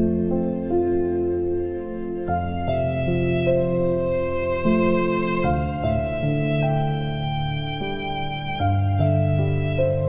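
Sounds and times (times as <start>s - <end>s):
slow gentle instrumental music: 0.0s - 10.0s.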